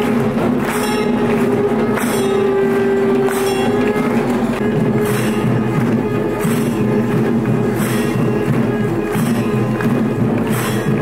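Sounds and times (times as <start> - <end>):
metallic percussion clashes: 0.0 - 11.0.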